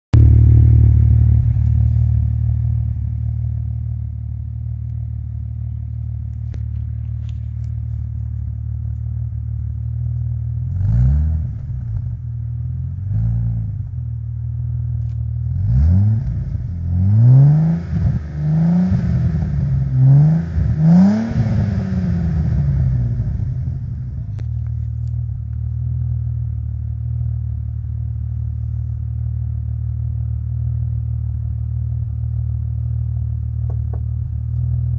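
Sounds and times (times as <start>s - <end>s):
car engine idling: 0.1s - 34.9s
engine throttle blips: 0.1s - 34.9s.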